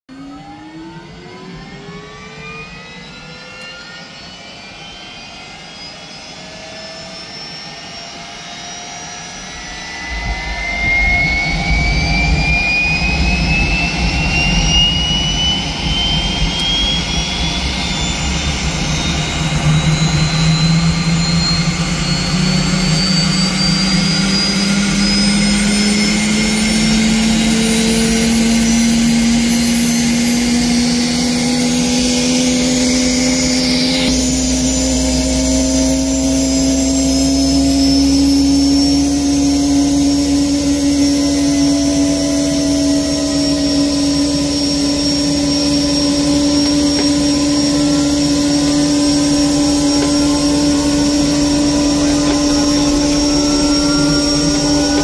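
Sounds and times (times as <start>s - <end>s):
low rising tone: 0.1s - 55.0s
turbine whine spooling up: 0.1s - 55.0s
deep rumble: 9.5s - 55.0s.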